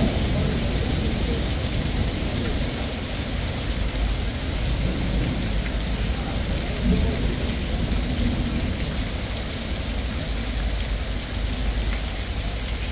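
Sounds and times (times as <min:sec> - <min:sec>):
heavy rain and hail: 0:00.0 - 0:12.9.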